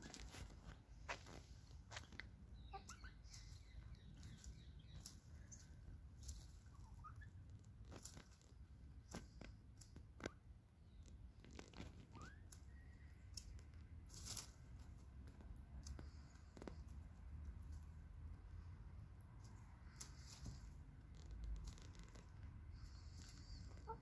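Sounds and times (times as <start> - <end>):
hens pecking and scratching: 0.0 - 24.0.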